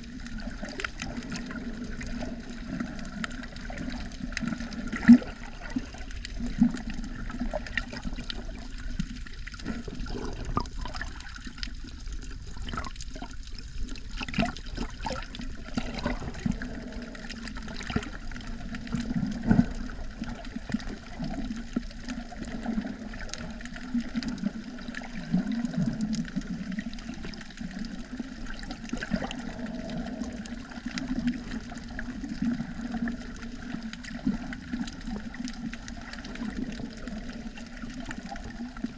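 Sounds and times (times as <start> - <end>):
water rushing and bubbling underwater: 0.0 - 38.9.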